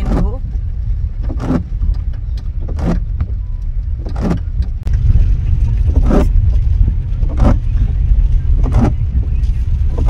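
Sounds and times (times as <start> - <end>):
car engine and tyres through water: 0.0 - 10.0
windscreen wipers swishing: 0.0 - 10.0.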